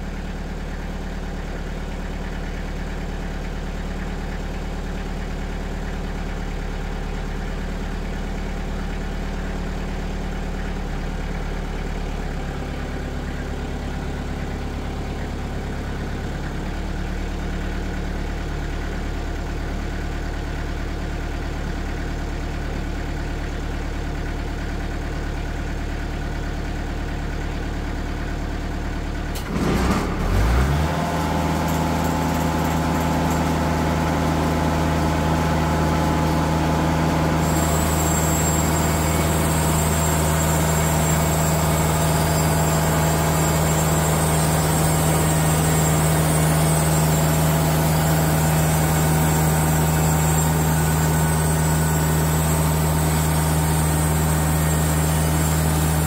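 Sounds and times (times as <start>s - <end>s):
sawmill engine idling and revving: 0.0s - 56.0s.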